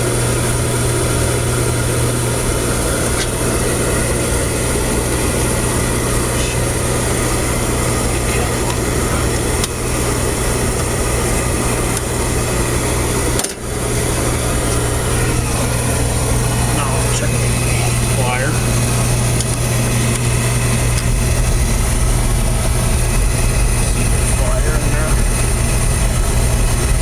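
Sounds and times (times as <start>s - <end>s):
oil burner motor and pump humming: 0.0s - 27.0s.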